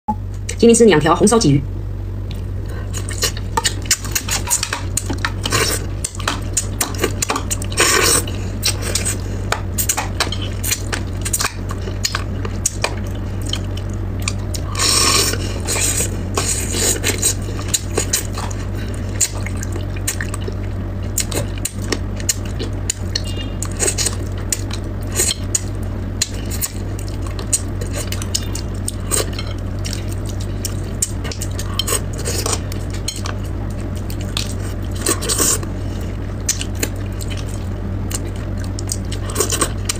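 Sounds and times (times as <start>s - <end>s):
steady low hum: 0.1s - 39.9s.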